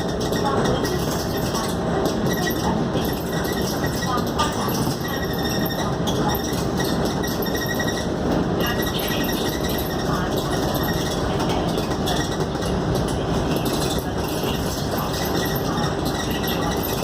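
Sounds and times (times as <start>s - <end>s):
bus engine: 0.0s - 17.0s
road noise: 0.0s - 17.0s.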